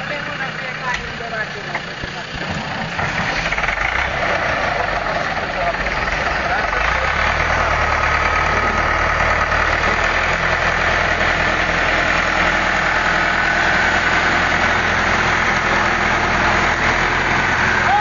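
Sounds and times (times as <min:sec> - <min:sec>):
vehicle engine running loud: 0:00.0 - 0:18.0.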